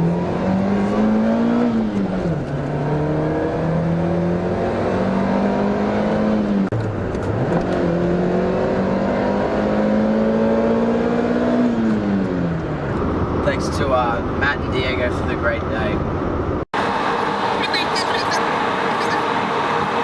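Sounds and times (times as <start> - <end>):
car engine revving through gears: 0.0 - 13.4, 16.8 - 20.0.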